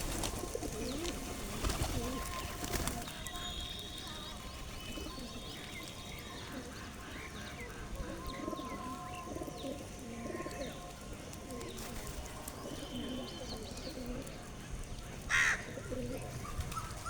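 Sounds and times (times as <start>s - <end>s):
pigeons cooing: 0.0s - 17.0s
small birds chirping: 0.0s - 17.0s.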